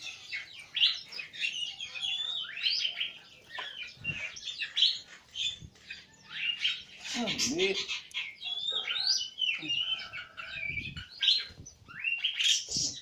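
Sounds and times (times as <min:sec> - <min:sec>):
birds chirping rapidly: 0:00.0 - 0:13.0.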